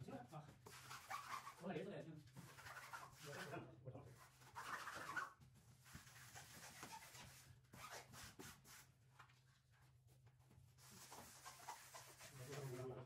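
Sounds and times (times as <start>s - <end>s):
wallpaper rubbing and scratching: 0.6s - 9.0s, 10.8s - 13.0s.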